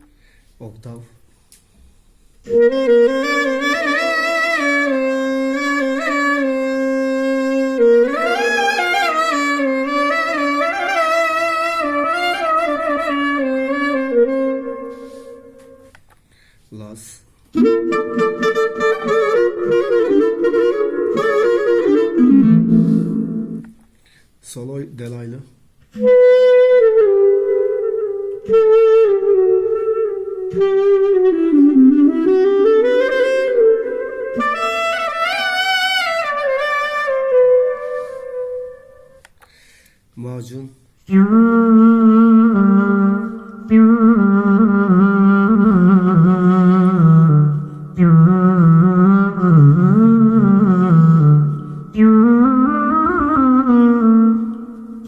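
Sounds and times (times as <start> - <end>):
clarinet-like melody with octave effect: 2.4 - 16.0, 17.4 - 23.9, 25.8 - 39.4, 41.0 - 55.0.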